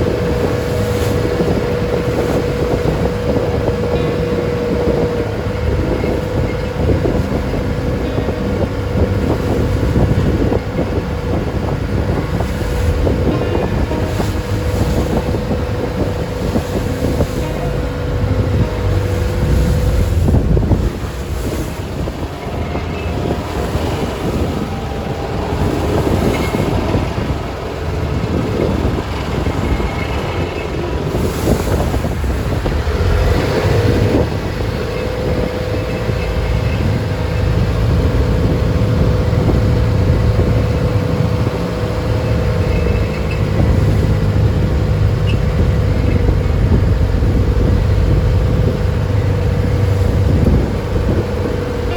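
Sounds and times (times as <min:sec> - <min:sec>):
boat engine droning: 0:00.0 - 0:51.9
wind buffeting microphone: 0:00.0 - 0:51.9.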